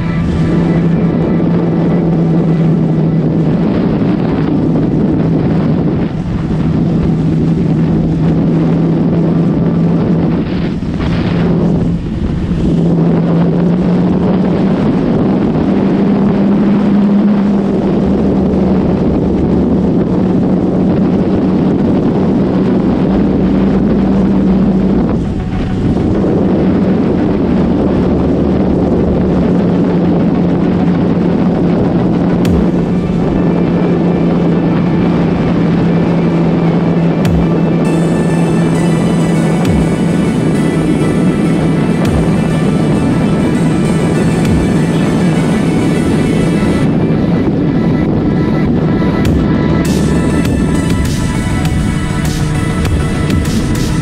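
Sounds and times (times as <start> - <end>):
motorcycle engine riding: 0.0 - 54.0
wind noise on microphone: 0.0 - 54.0.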